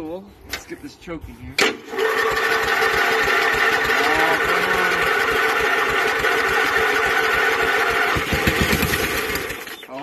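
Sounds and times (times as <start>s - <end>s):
riding mower engine running: 1.8s - 10.0s.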